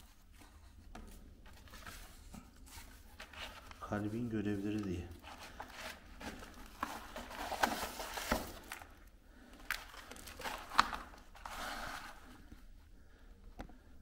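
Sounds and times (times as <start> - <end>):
paper rustling: 0.0 - 12.7.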